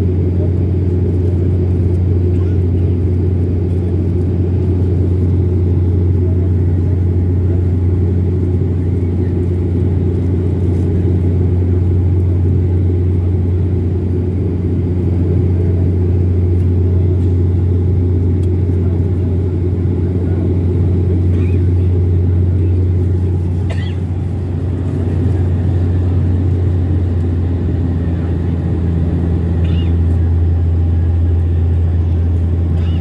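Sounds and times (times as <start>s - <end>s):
airliner engines and airflow drone: 0.0s - 33.0s
strong low hum: 0.0s - 33.0s.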